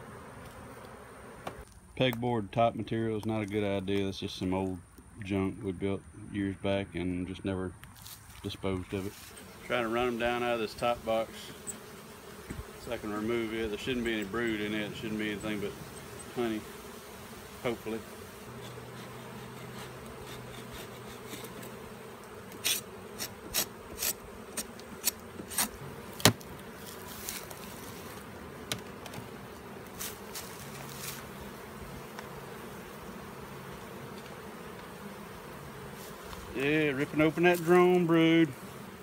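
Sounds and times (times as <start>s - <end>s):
bee colony humming: 0.0s - 1.7s, 2.3s - 39.0s.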